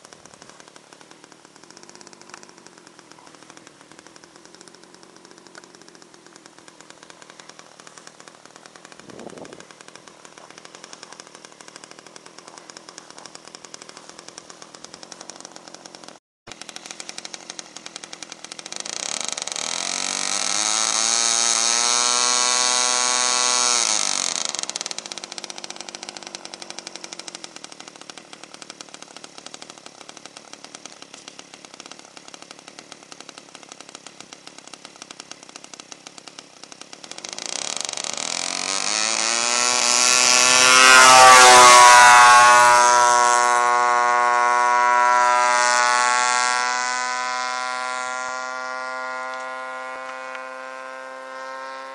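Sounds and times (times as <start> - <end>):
model airplane engine: 0.0 - 51.9.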